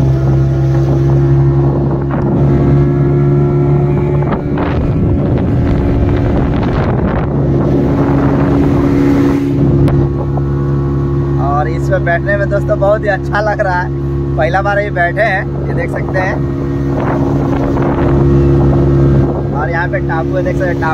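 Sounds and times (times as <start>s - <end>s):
wind noise on microphone: 0.0s - 11.4s, 15.3s - 20.9s
outboard motor running: 0.0s - 20.9s.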